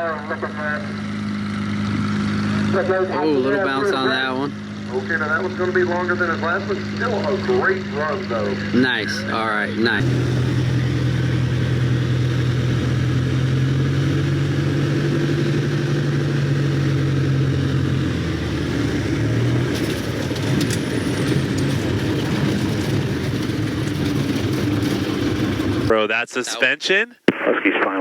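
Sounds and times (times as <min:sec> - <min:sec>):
light aircraft engine running: 0:00.0 - 0:25.9.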